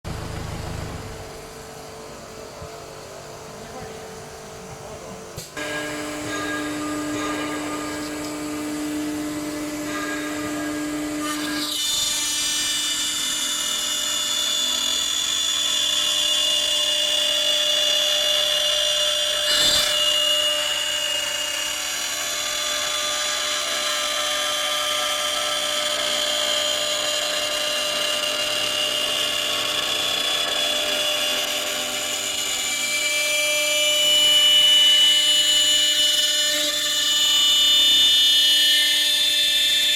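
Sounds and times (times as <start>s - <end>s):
machine humming: 0.1s - 39.9s
high-pitched drill-like whine: 5.6s - 39.9s.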